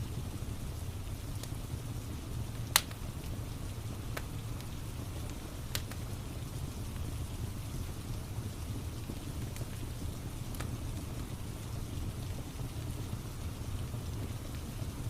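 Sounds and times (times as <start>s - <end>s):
rain and fire rumble: 0.0s - 15.0s
wood fire crackling: 0.0s - 15.0s
fire popping: 0.1s - 15.0s.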